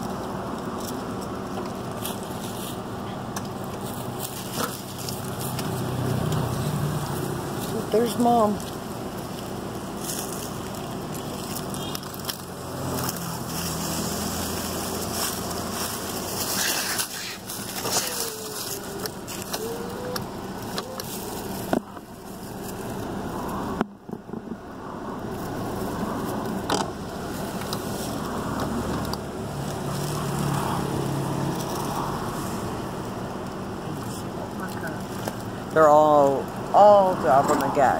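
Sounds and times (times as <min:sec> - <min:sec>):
car engine idling: 0:00.0 - 0:37.9
road noise: 0:00.0 - 0:37.9.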